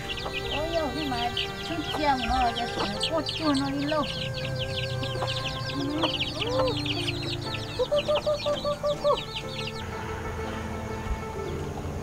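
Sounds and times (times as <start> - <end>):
hen clucking: 0.0 - 11.9
chicks peeping: 0.0 - 12.0
hens calling: 0.0 - 12.0.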